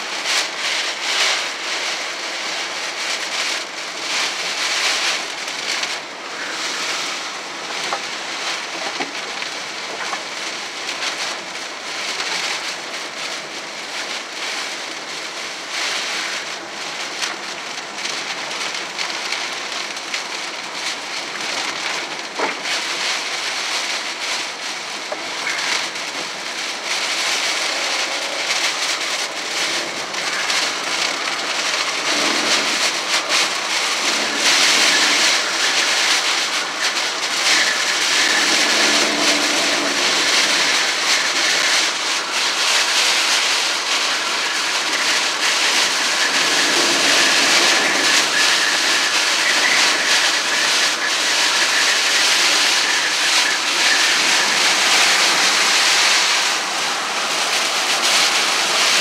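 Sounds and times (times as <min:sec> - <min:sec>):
heavy rain on car windshield: 0:00.0 - 0:59.0.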